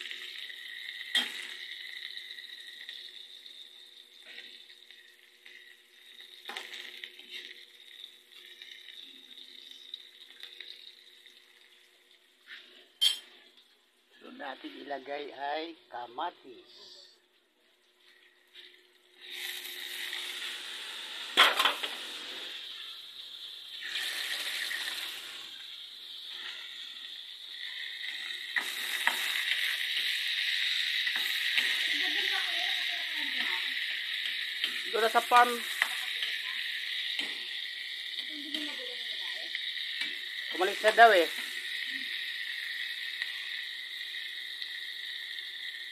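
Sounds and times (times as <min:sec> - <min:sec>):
onion and garlic sizzling in oil: 0:00.0 - 0:13.6, 0:18.0 - 0:45.9.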